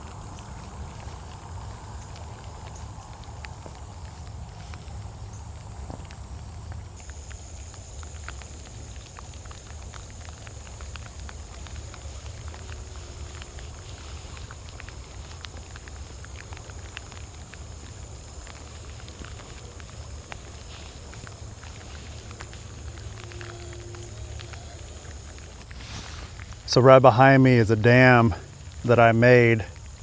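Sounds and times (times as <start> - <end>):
light ticks: 0.0 - 26.7
high insect drone: 0.0 - 30.0.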